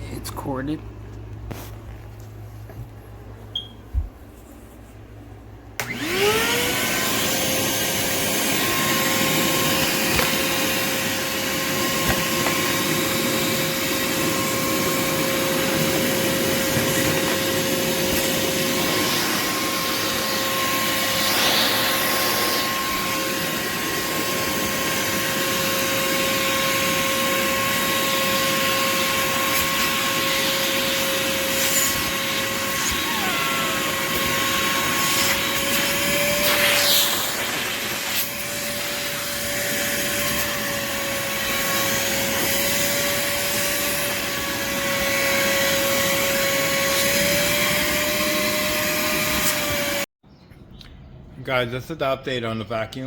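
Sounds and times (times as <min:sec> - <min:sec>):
shop vacuum motor whining: 0:05.8 - 0:50.1.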